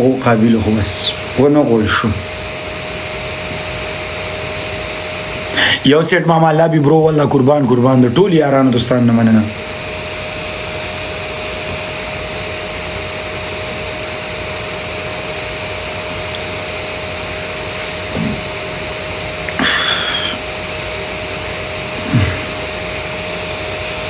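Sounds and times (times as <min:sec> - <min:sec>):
steady whirring: 0:00.0 - 0:05.6, 0:09.2 - 0:24.0
faint constant hum: 0:00.0 - 0:24.0.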